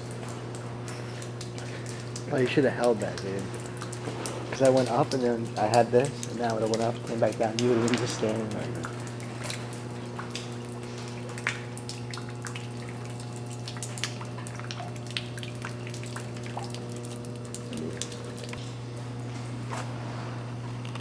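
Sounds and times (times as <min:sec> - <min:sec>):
water dripping: 0:00.0 - 0:19.2
steady low hum: 0:00.0 - 0:21.0.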